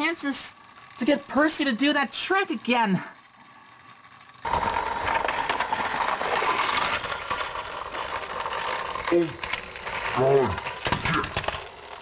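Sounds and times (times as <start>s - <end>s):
toy train motor whirring: 0.0s - 12.0s
wheels rattling over track joints: 0.0s - 12.0s.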